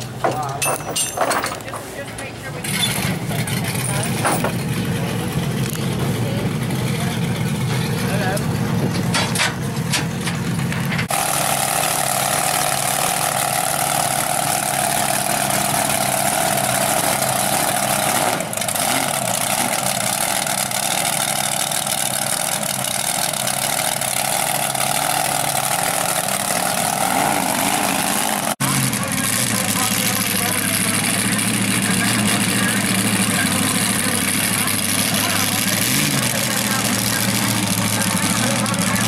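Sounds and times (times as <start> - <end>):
engine running near idle: 0.0 - 39.0
steady engine whine: 0.0 - 39.0.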